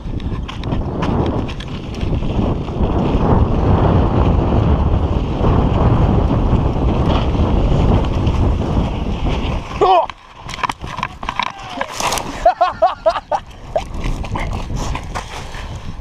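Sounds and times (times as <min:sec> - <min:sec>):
bike clicks and rattles: 0:00.0 - 0:16.0
bike tyre noise on dirt: 0:00.0 - 0:16.0
wind buffeting microphone: 0:00.0 - 0:16.0.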